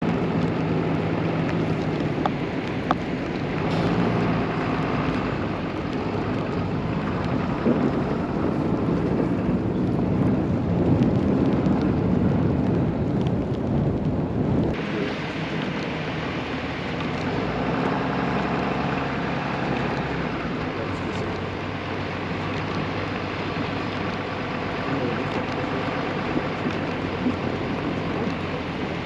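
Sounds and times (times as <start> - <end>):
snowstorm wind rushing: 0.0 - 29.0.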